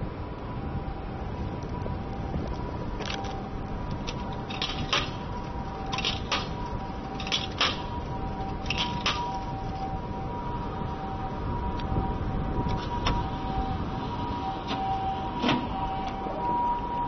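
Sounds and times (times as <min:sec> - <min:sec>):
high electrical whine: 0:00.0 - 0:17.0.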